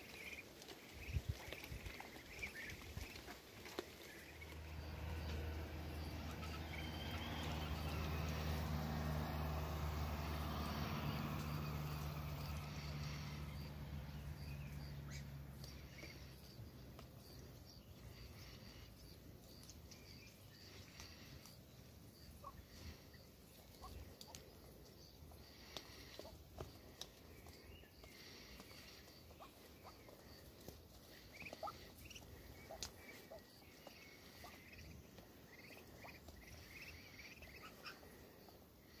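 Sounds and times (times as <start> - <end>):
ducklings peeping: 0.0 - 39.0
low engine hum: 0.1 - 39.0.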